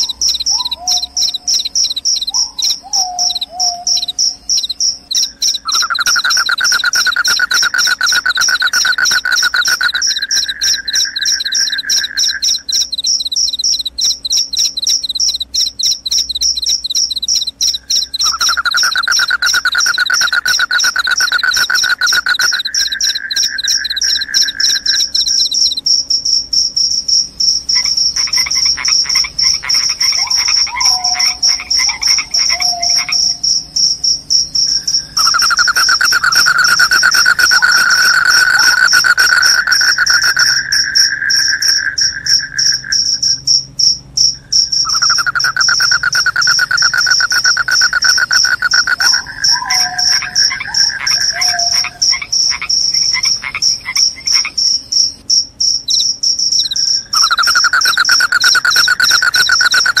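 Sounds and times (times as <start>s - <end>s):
crickets trilling: 0.0s - 60.0s
lower pulsing trill: 0.0s - 60.0s.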